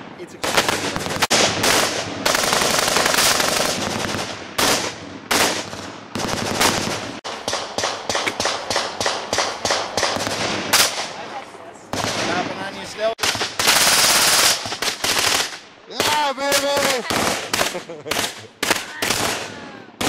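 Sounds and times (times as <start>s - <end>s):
separate gunshots: 0.0s - 11.2s, 11.9s - 20.0s
submachine gun firing bursts: 0.4s - 11.1s, 13.2s - 15.6s, 16.5s - 19.5s.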